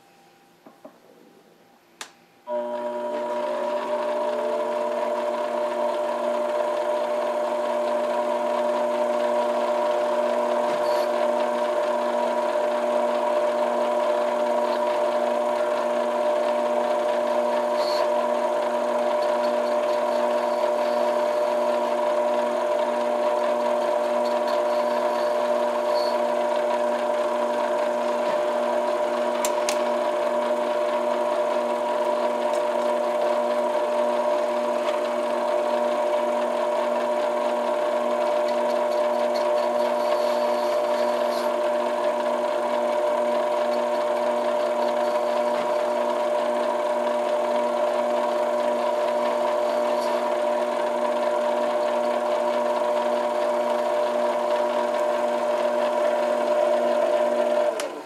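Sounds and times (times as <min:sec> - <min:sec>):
lathe motor whining: 0:02.5 - 0:58.0.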